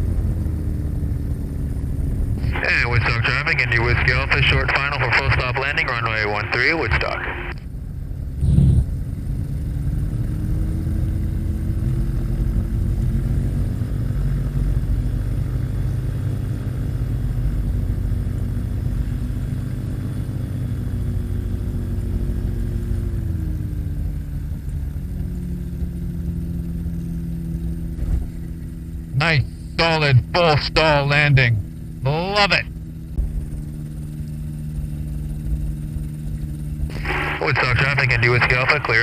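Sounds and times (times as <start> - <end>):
light aircraft engine running: 0.0 - 39.0.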